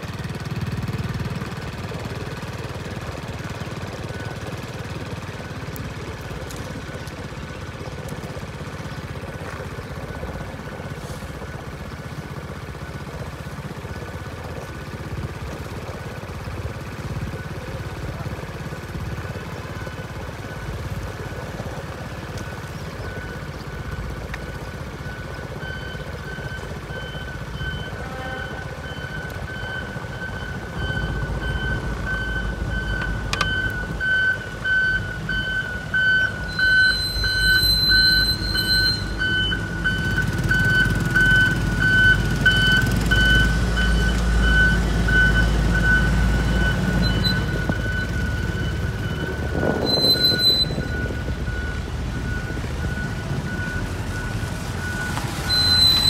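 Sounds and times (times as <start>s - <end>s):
road roller diesel engine: 0.0s - 56.0s
reversing alarm beeping: 0.4s - 7.9s, 16.4s - 56.0s.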